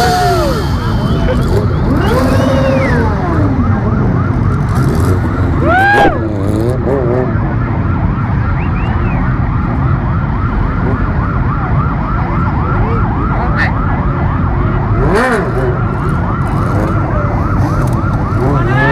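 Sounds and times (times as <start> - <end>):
road traffic rumble: 0.0 - 18.9
siren yelping: 0.0 - 18.9.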